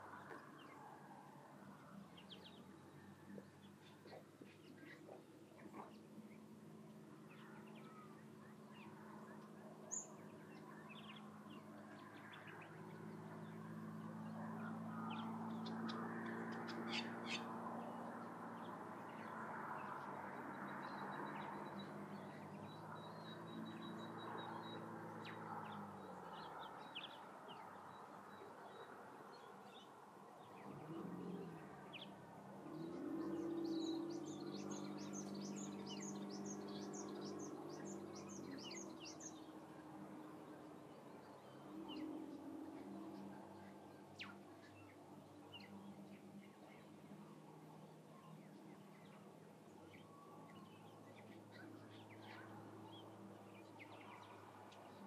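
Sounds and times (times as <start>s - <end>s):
birds chirping: 1.6s - 55.0s.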